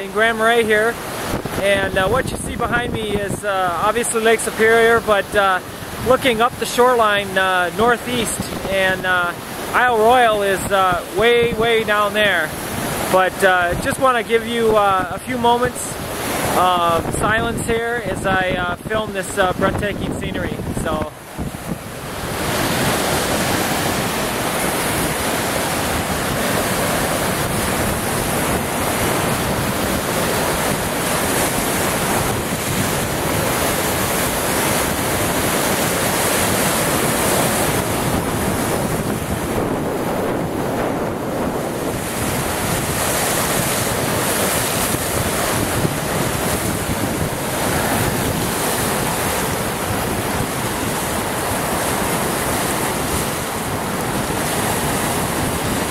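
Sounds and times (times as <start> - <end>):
waves splashing on rocks: 0.0 - 55.9
wind buffeting microphone: 0.7 - 4.0, 7.4 - 13.9, 15.9 - 55.9.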